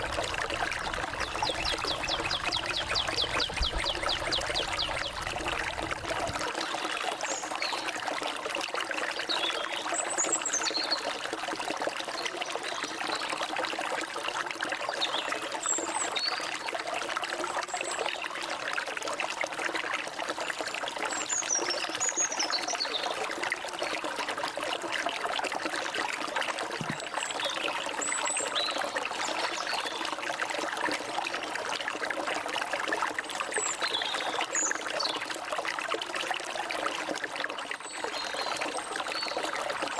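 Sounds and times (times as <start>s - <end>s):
forest stream trickling: 0.0s - 39.9s.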